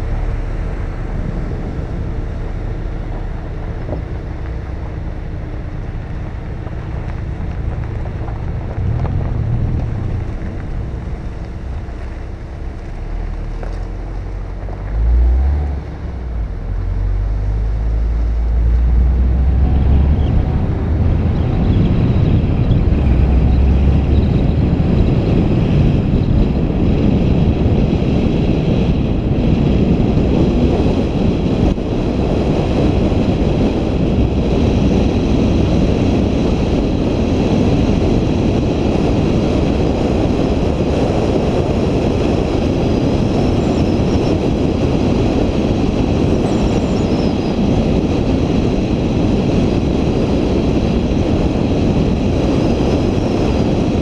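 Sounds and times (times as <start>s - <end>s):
vehicle road and engine noise: 0.0s - 54.0s.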